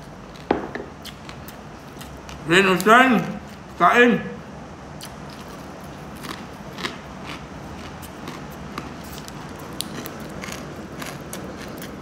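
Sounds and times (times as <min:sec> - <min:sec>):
crispy pork crunching when chewed: 0:00.0 - 0:03.7, 0:05.0 - 0:12.0.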